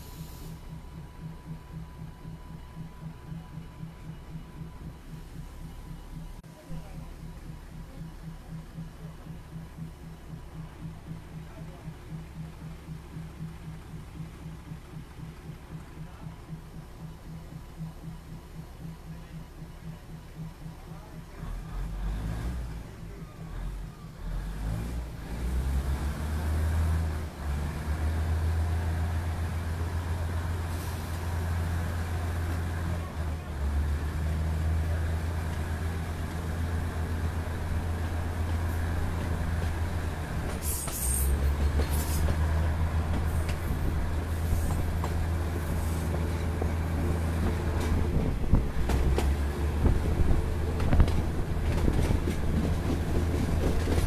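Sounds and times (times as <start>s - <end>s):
rail joint clicks: 0.0s - 54.0s
railcar engine and wheels drone: 0.0s - 54.0s.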